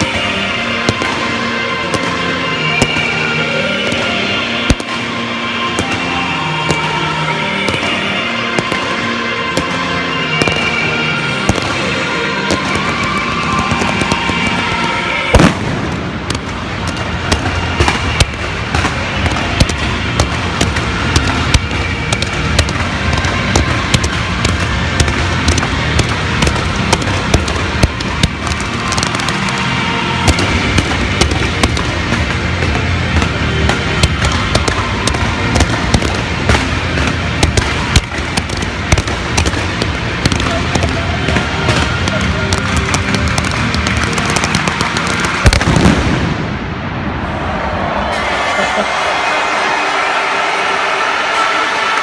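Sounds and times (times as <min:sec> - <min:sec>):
fireworks bangs and crackles: 0:00.0 - 0:49.3
continuous rumble: 0:00.0 - 0:50.6.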